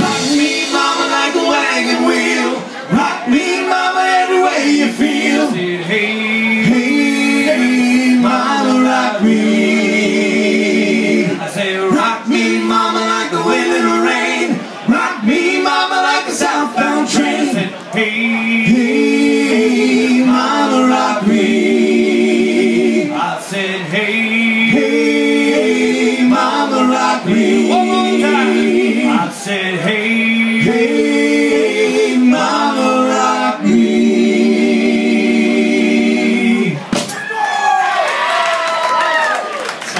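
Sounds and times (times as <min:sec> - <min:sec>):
voices singing with vibrato: 0:00.0 - 0:37.1
drums: 0:00.0 - 0:39.0.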